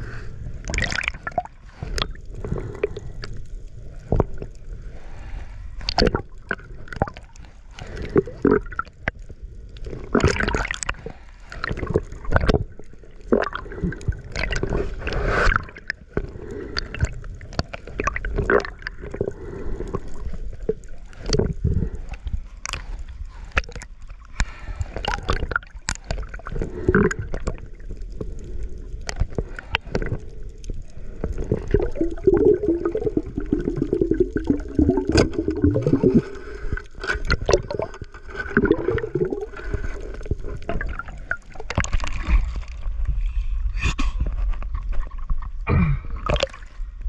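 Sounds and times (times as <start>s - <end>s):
water sloshing and gurgling: 0.0s - 47.0s.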